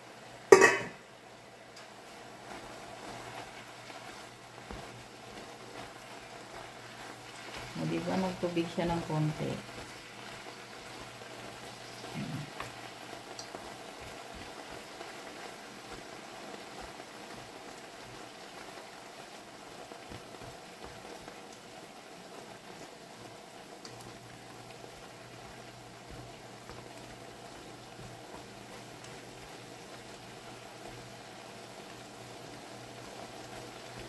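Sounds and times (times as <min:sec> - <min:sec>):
greens sizzling in a frying pan: 0:00.0 - 0:34.0.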